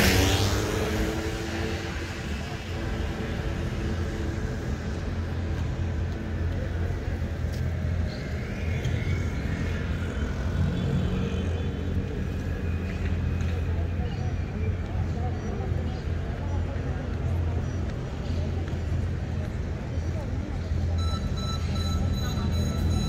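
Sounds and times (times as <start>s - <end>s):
street traffic hum: 0.0s - 23.0s.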